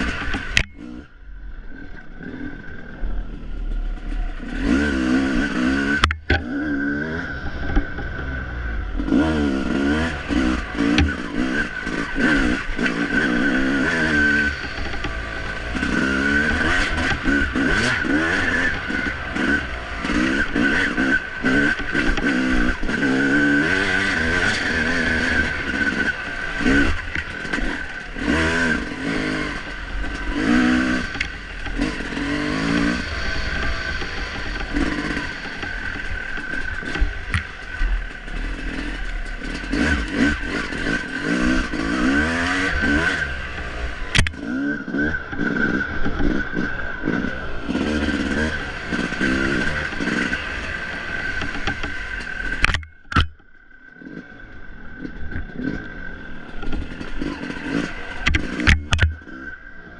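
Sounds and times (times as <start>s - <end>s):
dirt bike engine revving: 0.0s - 53.3s, 53.9s - 59.9s.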